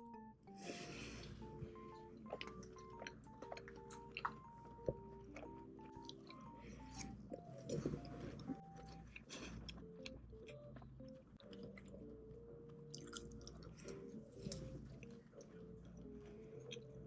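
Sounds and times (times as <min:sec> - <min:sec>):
soft background music: 0:00.0 - 0:17.0
chewing and crunching food: 0:00.6 - 0:17.0.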